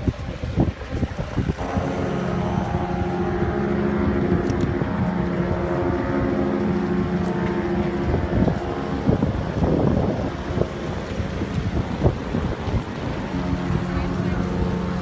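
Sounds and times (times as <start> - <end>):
engine running steadily: 0.1 - 15.0.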